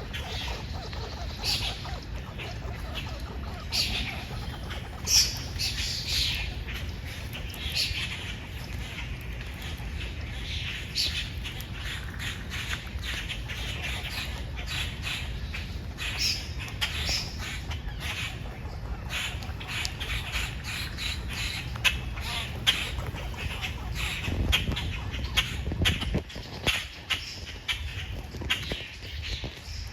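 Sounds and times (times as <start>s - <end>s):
birds calling: 0.0s - 29.9s.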